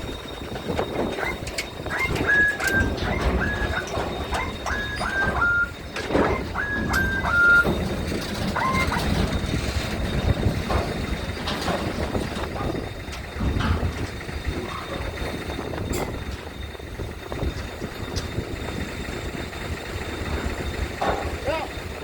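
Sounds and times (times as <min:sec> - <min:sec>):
low rumble of engines: 0:00.0 - 0:22.0
wind: 0:00.0 - 0:22.0.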